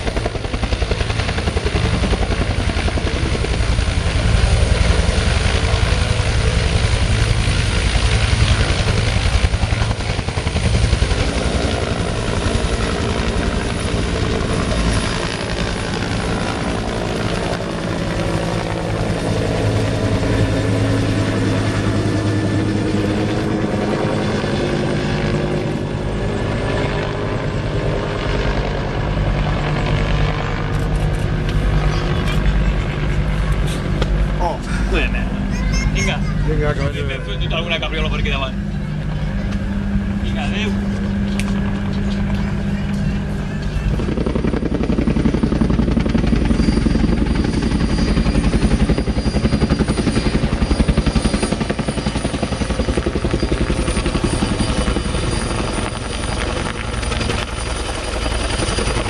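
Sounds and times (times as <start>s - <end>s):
helicopter rotor and engines: 0.0s - 59.0s.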